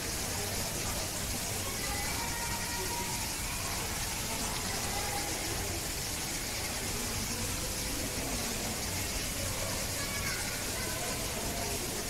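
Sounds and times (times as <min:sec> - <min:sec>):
faint distant voices: 0:00.0 - 0:12.0
steady background hiss: 0:00.0 - 0:12.0.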